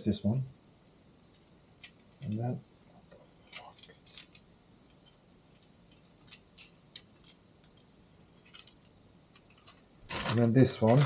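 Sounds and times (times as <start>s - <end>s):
small parts clicking and clinking: 1.2s - 2.6s, 3.4s - 11.0s.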